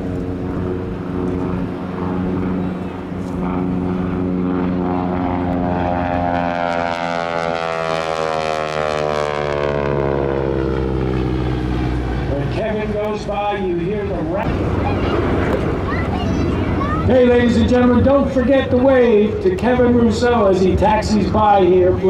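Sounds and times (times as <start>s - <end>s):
propeller plane engine passing: 0.0s - 22.0s.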